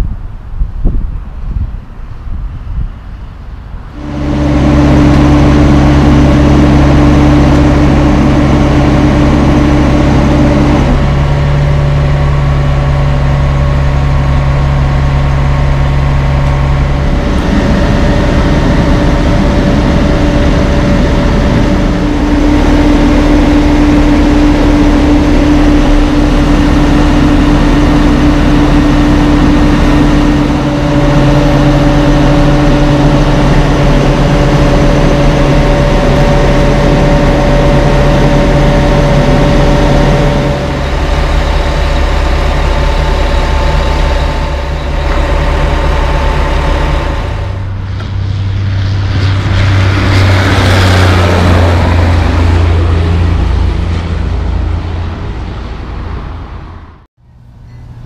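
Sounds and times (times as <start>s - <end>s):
diesel truck engines running: 2.5s - 58.0s.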